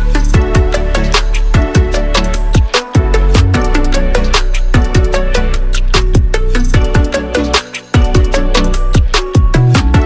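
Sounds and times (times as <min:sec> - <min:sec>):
heavy bass: 0:00.0 - 0:10.0
music with kick-drum beat: 0:00.0 - 0:10.0.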